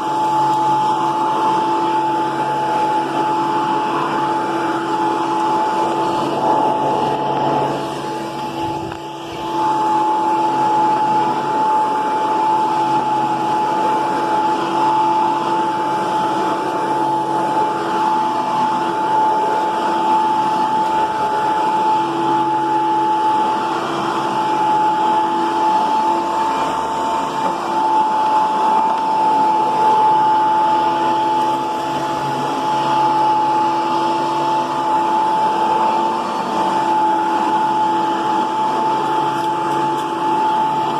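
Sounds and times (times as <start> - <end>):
upright vacuum cleaner running: 0.0 - 40.9.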